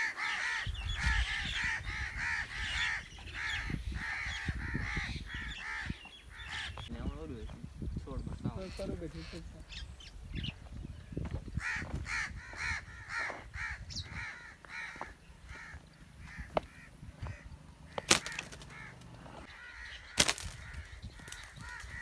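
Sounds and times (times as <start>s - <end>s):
birds harsh repeated calls: 0.0s - 22.0s.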